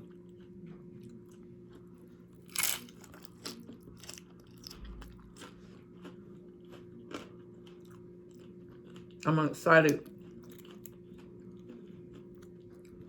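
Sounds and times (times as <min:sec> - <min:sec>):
crunching and chewing chips: 0:00.0 - 0:13.0.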